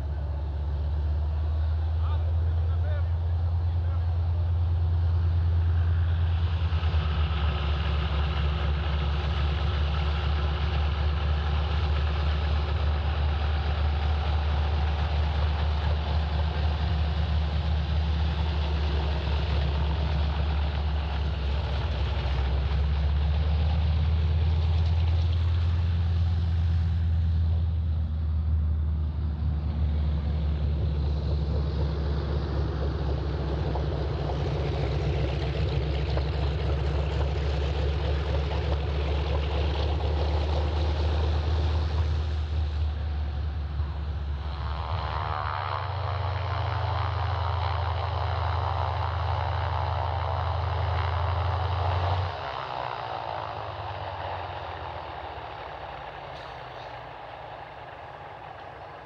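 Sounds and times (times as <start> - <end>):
radial aircraft engine running: 0.0 - 59.0.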